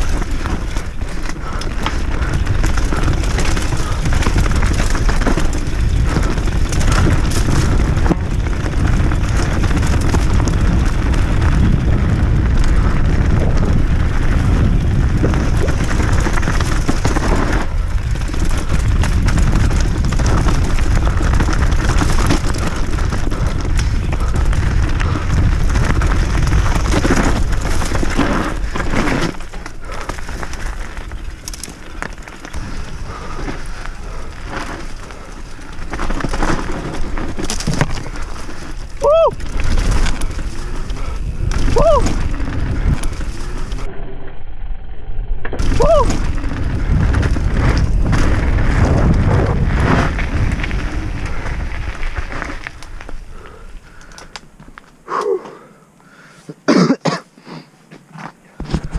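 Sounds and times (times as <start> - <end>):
bike rattling over loose rock: 0.0 - 43.9, 45.5 - 55.6, 58.0 - 58.9
wind buffeting microphone: 0.0 - 44.0, 45.5 - 54.6.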